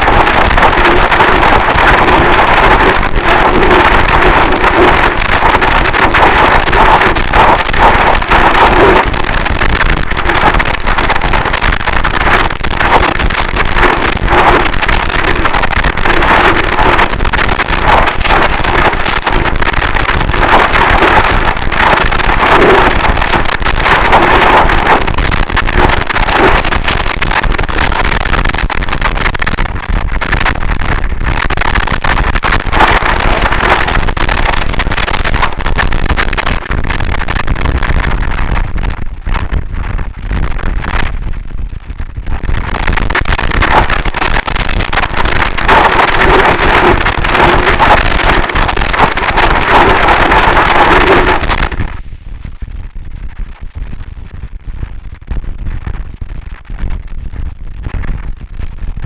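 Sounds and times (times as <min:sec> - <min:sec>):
harsh distorted static noise: 0:00.0 - 0:59.0.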